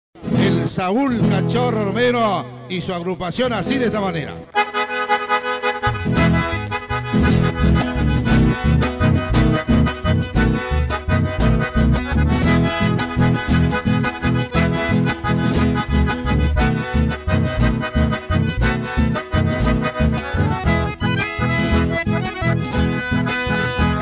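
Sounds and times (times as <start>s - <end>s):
guitar: 0.2s - 24.0s
accordion melody: 3.5s - 24.0s
electric bass: 4.6s - 24.0s.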